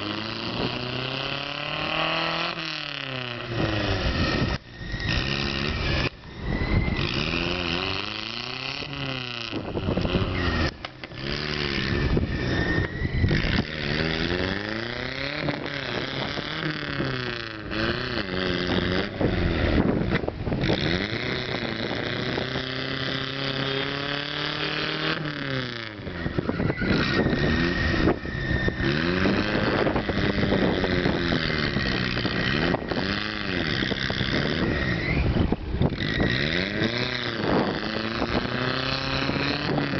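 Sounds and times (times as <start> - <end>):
tires spinning in mud and water: 0.0 - 39.9
truck engine revving hard: 0.0 - 39.9.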